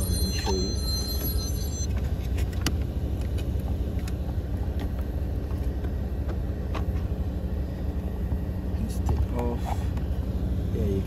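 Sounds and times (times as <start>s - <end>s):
car engine idling: 1.9s - 11.0s.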